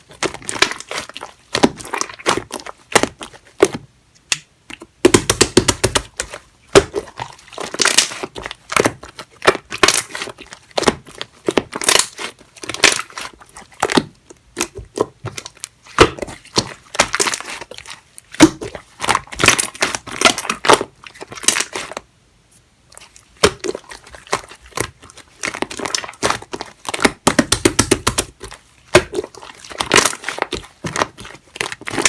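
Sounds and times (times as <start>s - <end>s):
slime squished by hand: 0.0s - 22.0s, 23.0s - 32.0s.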